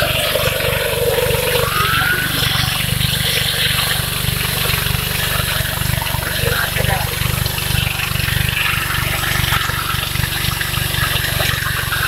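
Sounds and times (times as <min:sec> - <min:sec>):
engine-driven core drill running: 0:00.0 - 0:12.0.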